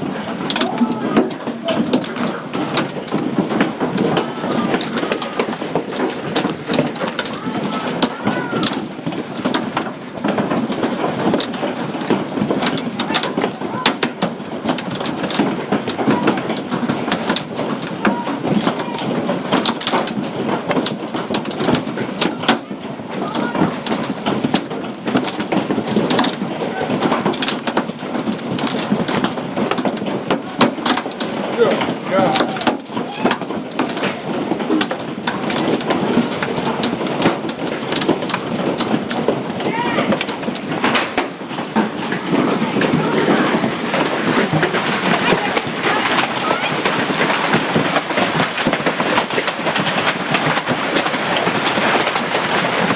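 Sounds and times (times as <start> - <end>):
hailstones clattering: 0.0 - 52.9
rain rushing: 0.0 - 52.9
roar of falling hail: 0.0 - 52.9.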